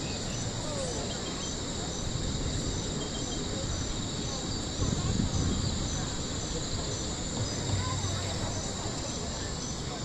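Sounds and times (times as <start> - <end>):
insect drone: 0.0 - 10.0
pulsing insect chirp: 0.0 - 10.0.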